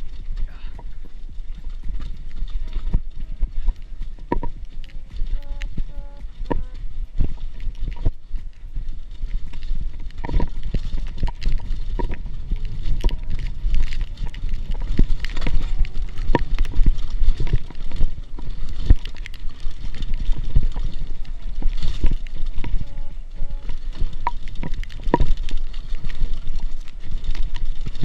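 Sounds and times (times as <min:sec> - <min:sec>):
low rumble: 0:00.0 - 0:28.0
mountain bike rattling: 0:00.0 - 0:28.0.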